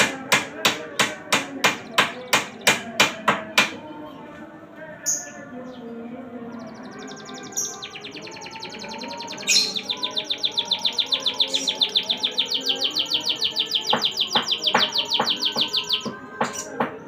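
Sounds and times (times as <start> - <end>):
canary singing a fast trill: 0.0 - 4.2, 5.0 - 17.0.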